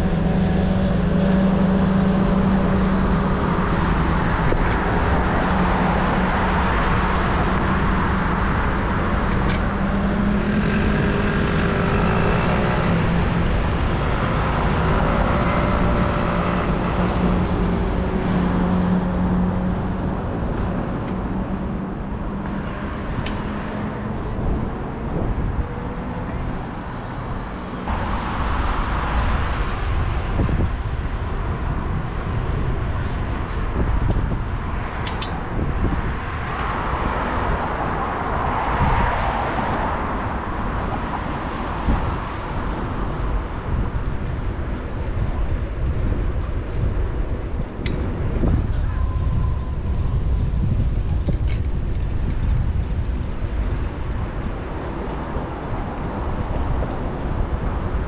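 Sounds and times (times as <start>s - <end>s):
cars passing: 0.0s - 58.0s
low traffic rumble: 0.0s - 58.0s
vehicle engine humming: 0.0s - 58.0s.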